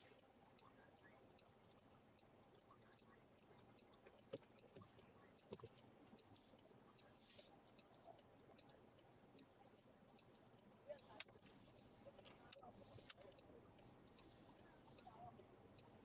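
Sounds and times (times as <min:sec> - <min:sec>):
turn signal relay ticking: 0:00.0 - 0:16.0.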